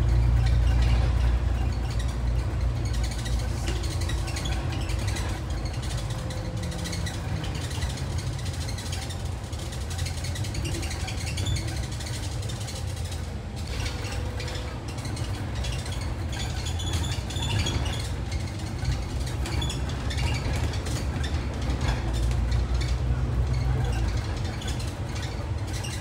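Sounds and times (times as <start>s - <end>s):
bus engine and road rumble: 0.0s - 26.0s
interior rattles and clicks: 0.0s - 26.0s.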